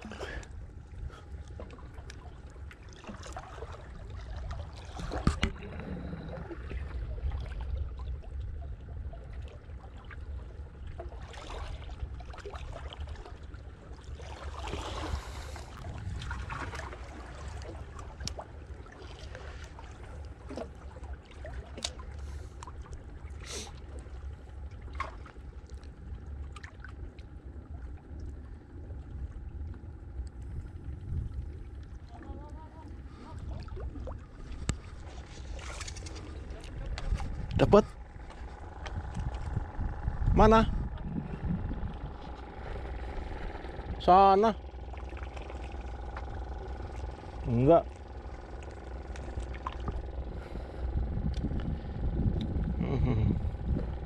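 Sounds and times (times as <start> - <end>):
steady low rumble: 0.0 - 54.0
water sloshing and lapping: 0.0 - 54.0.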